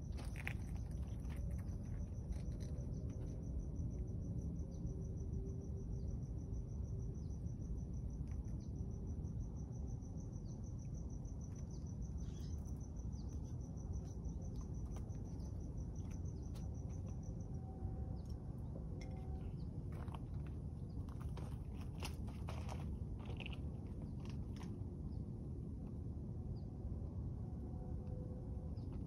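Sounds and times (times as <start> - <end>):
cricket chirping: 0.0 - 29.0.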